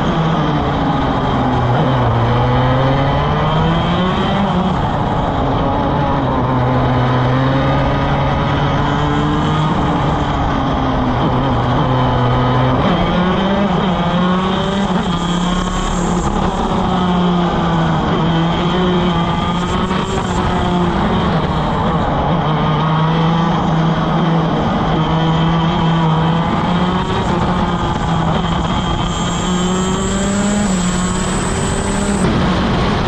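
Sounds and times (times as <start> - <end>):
kart engine running hard: 0.0 - 33.0.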